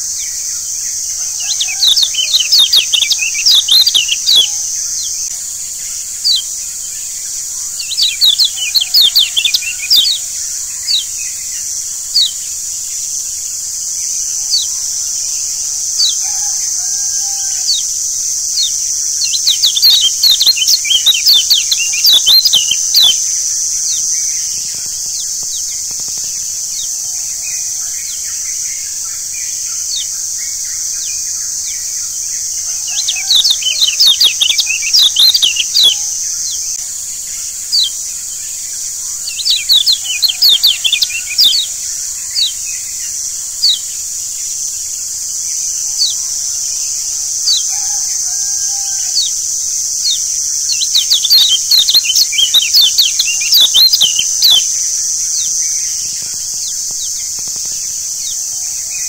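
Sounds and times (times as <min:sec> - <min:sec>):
faint lower bird calls: 0:00.0 - 0:05.4, 0:06.2 - 0:13.4, 0:14.0 - 0:36.8, 0:39.1 - 0:44.1, 0:45.6 - 0:59.0
songbirds chirping: 0:00.0 - 0:59.0
steady high hiss: 0:00.0 - 0:59.0.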